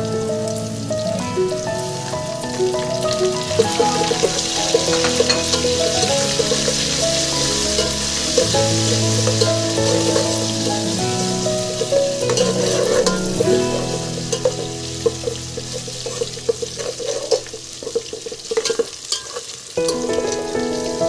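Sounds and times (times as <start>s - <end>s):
background music with melody: 0.0s - 18.5s, 19.8s - 21.0s
food sizzling and bubbling in a pot: 0.0s - 21.0s
ladle clinking: 3.3s - 20.5s.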